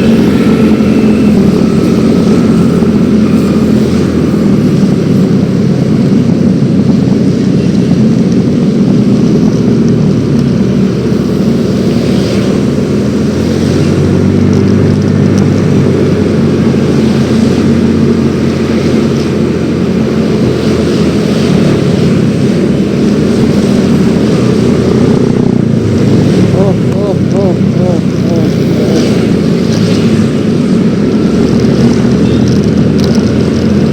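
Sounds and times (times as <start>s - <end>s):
road and air noise: 0.0s - 33.9s
scooter engine running: 0.0s - 33.9s.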